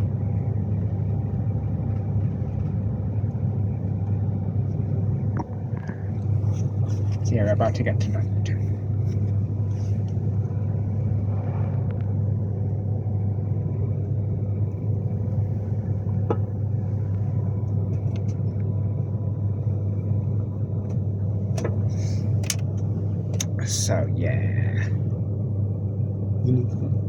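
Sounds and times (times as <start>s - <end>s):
train interior rumble and hum: 0.0s - 27.0s.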